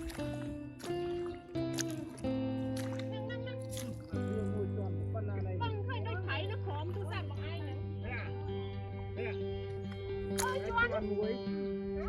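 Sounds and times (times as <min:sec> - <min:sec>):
music with held chords: 0:00.0 - 0:12.0.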